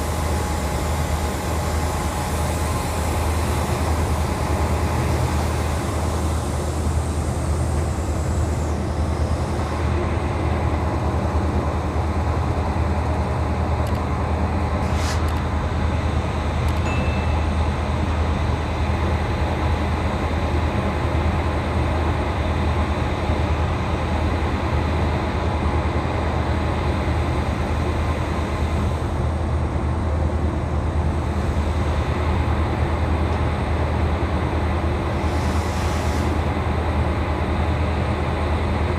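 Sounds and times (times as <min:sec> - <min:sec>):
electric locomotive humming: 0:00.0 - 0:38.9.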